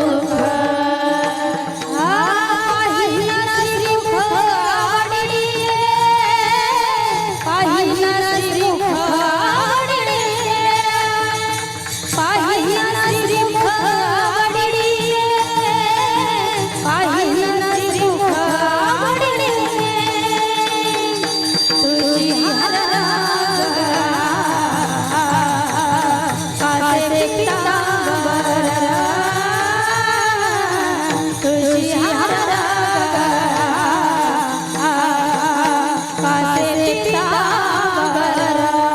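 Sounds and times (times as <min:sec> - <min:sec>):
instrumental accompaniment: 0:00.0 - 0:38.9
woman singing devotional melody: 0:00.0 - 0:38.9.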